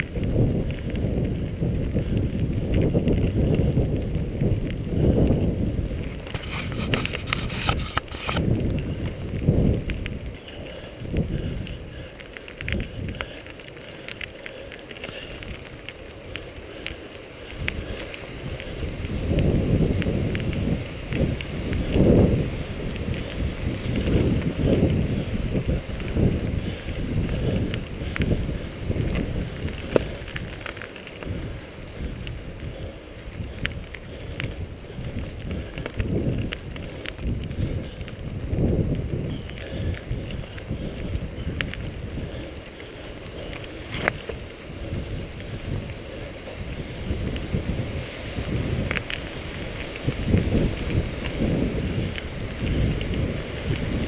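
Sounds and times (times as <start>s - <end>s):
tyres rolling over dirt trail: 0.0s - 54.0s
wind buffeting microphone: 0.0s - 54.0s.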